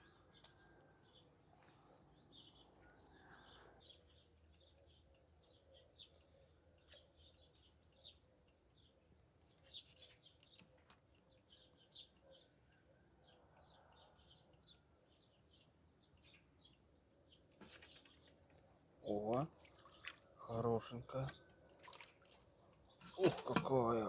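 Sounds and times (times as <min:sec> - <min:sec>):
faint bird chirping: 0:00.0 - 0:24.0.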